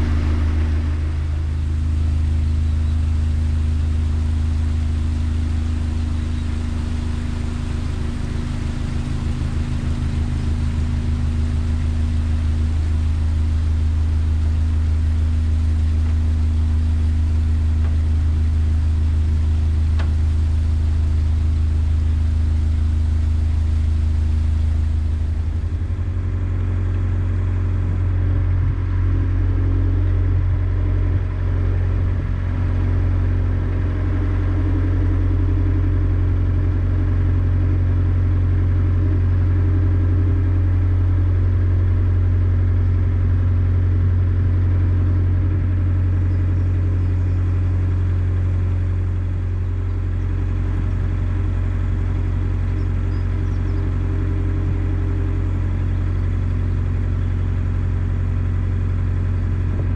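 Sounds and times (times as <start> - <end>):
boat diesel engine droning: 0.0 - 59.9.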